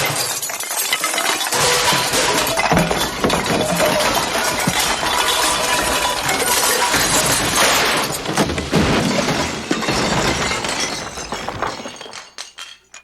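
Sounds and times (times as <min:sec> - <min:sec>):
metal scrap crashing and clanking: 0:00.0 - 0:13.0.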